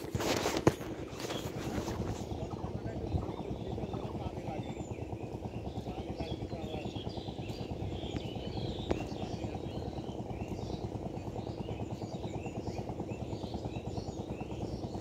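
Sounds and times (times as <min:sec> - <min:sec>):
engine chugging: 0:00.0 - 0:15.0
small birds chirping: 0:00.0 - 0:15.0.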